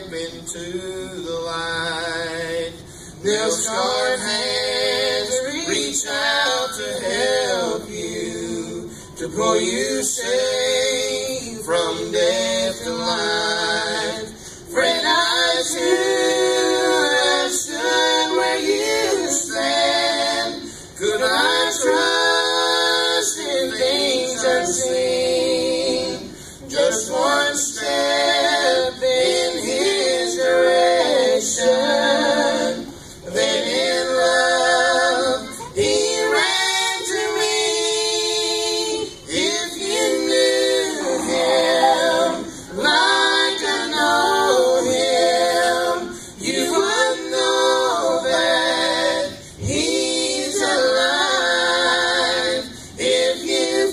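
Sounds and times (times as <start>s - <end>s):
choir singing gospel in harmony: 0.0s - 53.9s.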